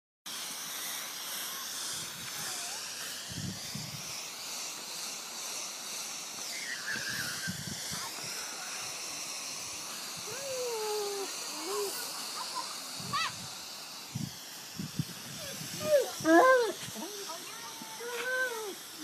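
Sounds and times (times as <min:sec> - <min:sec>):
garden hose spraying water: 0:00.3 - 0:19.0.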